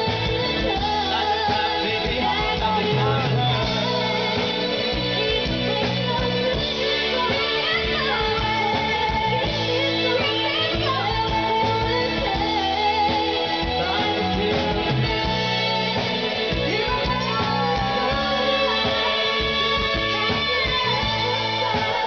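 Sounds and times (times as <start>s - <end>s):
live pop band: 0.0s - 22.0s
woman singing into microphone: 0.0s - 22.0s.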